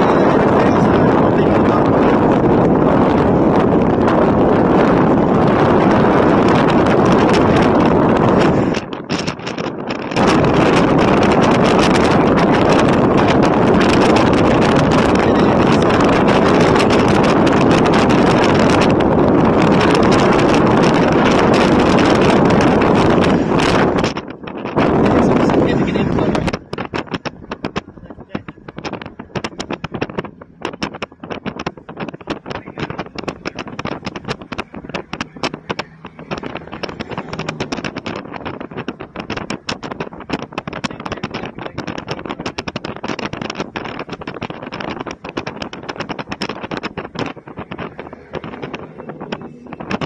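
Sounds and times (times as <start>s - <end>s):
vehicle road noise: 0.0s - 50.0s
wind buffeting microphone: 0.0s - 50.0s.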